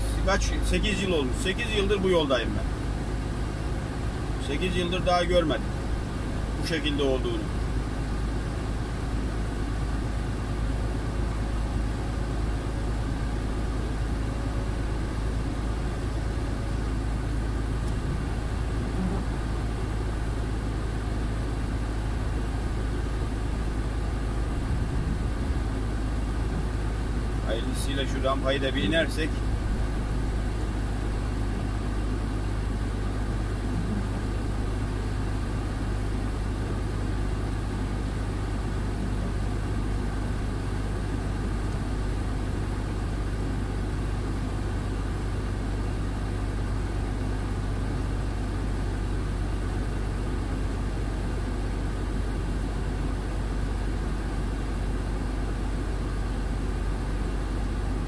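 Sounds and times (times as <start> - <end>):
truck diesel engine droning: 0.0 - 58.0.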